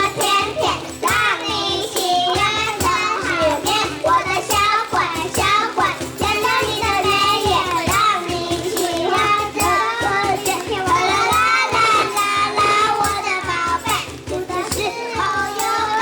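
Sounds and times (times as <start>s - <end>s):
backing music with steady beat: 0.0s - 16.0s
children singing together: 0.0s - 16.0s.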